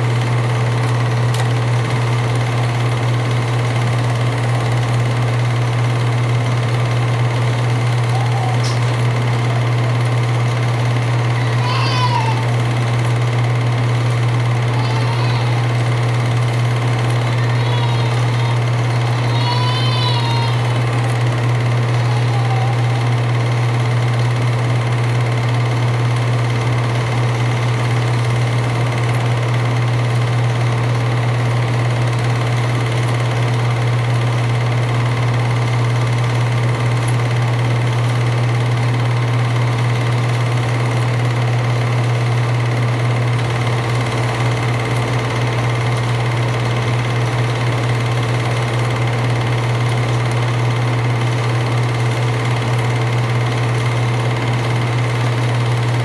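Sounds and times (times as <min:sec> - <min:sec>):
film projector humming and whirring: 0:00.0 - 0:56.0.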